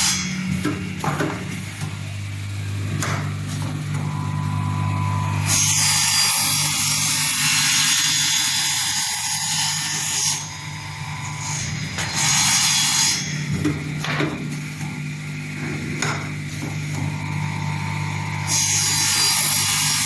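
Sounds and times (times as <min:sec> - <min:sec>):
saw blade cutting wood whine: 0:00.0 - 0:13.6, 0:14.9 - 0:20.0
saw motor hum: 0:00.0 - 0:20.0.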